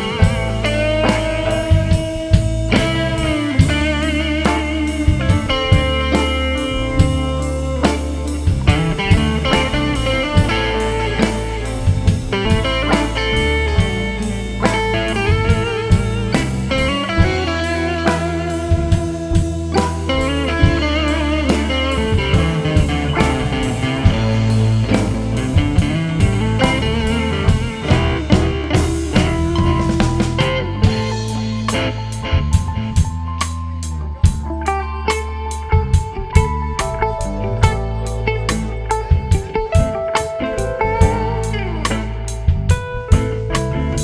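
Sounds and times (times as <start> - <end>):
bass line: 0.0 - 44.0
drum kit beat: 0.0 - 44.0
electric guitar lead lines: 0.0 - 44.0.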